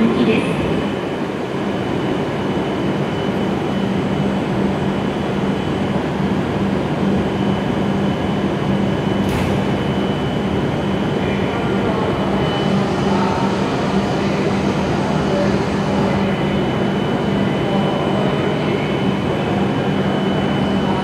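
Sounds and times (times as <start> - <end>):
pulsing low hum: 0.0 - 21.0
thin high whine: 0.0 - 21.0.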